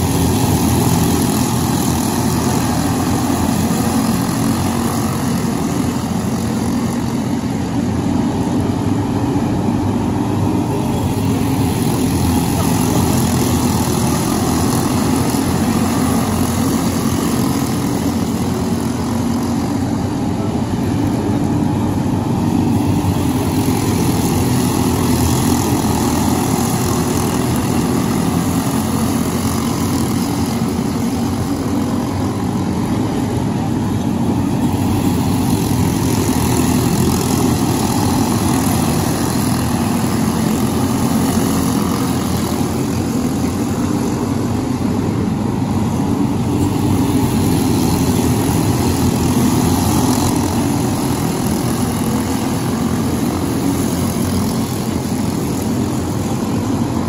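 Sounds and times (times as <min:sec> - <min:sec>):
go-kart engines buzzing: 0:00.0 - 0:57.0.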